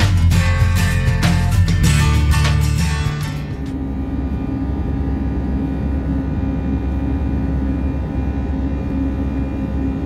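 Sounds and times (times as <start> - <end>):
airliner cabin engine drone: 0.0 - 10.0.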